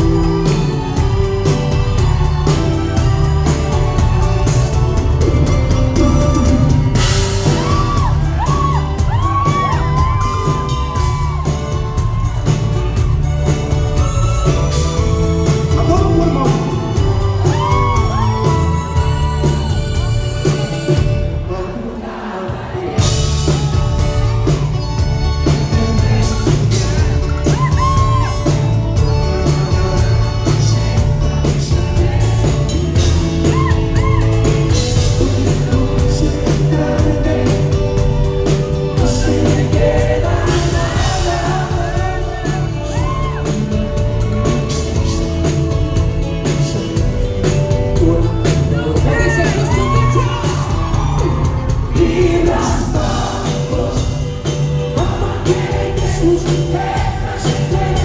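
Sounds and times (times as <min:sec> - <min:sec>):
crowd whooping: 0:00.0 - 0:21.0, 0:21.9 - 0:29.0, 0:31.8 - 0:46.0, 0:48.9 - 0:58.0
electric bass and drums: 0:00.0 - 0:21.3, 0:23.0 - 0:58.0
lead singer: 0:00.0 - 0:58.0.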